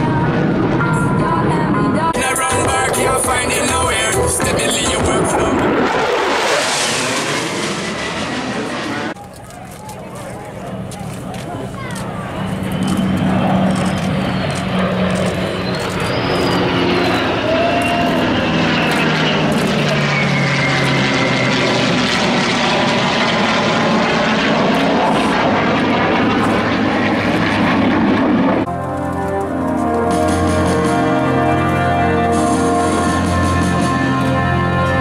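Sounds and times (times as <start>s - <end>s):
jets flying past: 0.0s - 9.2s, 10.0s - 35.0s.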